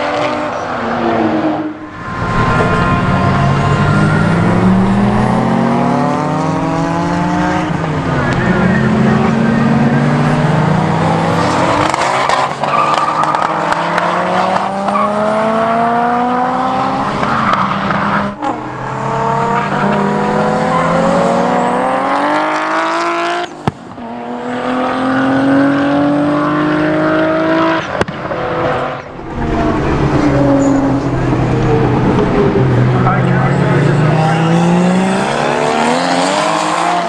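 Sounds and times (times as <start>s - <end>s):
car engine accelerating hard: 0.0s - 37.0s.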